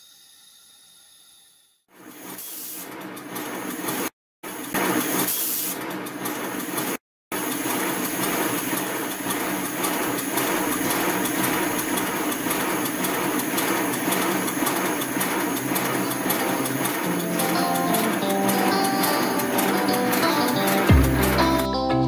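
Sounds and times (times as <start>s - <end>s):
miniature steam locomotive running: 2.4s - 21.6s.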